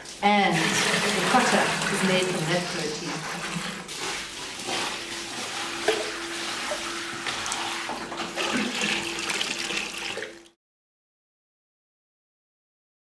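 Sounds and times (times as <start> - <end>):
whey sloshing and splashing: 0.0 - 10.5.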